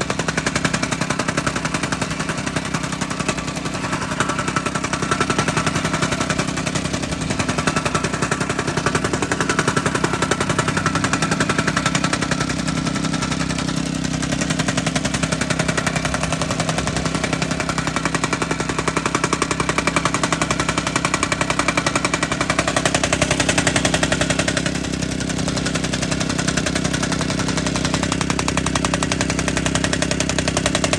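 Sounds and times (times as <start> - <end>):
tamping rammer pounding: 0.0 - 30.9.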